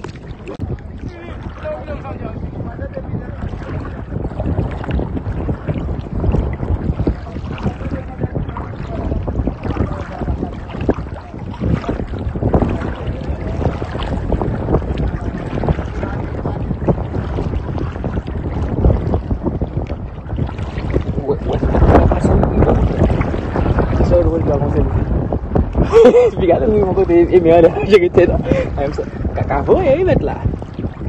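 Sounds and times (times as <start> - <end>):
water sloshing and splashing: 0.0 - 31.0
wind buffeting microphone: 0.0 - 31.0.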